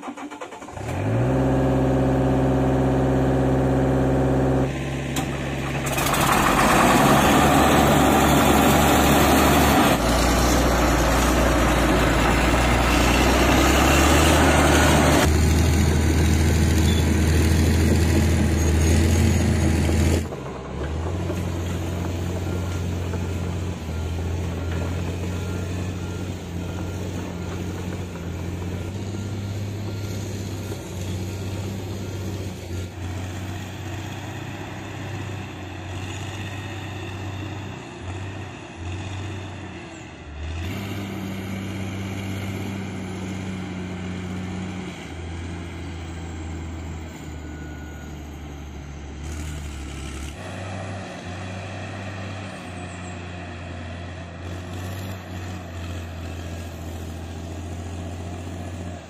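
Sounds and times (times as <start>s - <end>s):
crawler dozer running loudly: 0.0s - 59.0s
mini excavator engine: 0.0s - 59.0s.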